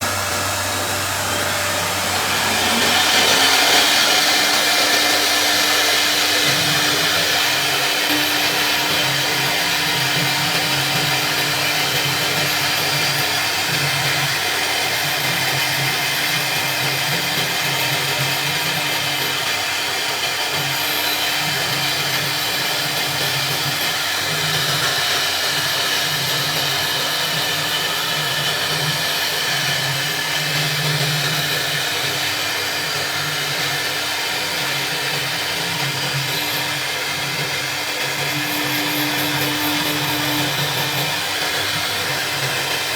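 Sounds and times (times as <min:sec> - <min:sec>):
router spindle whining: 0:00.0 - 0:42.9.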